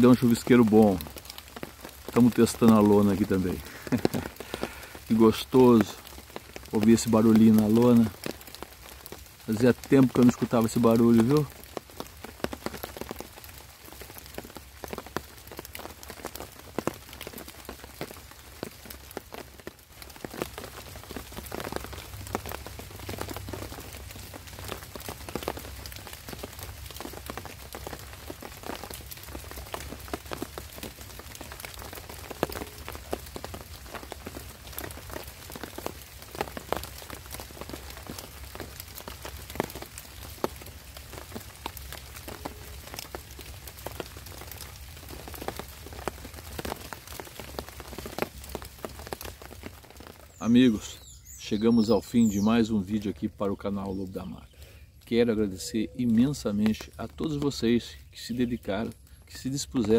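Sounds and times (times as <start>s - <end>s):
rain spattering on a tarp: 0.0s - 59.9s
steady rain hiss: 0.0s - 59.9s.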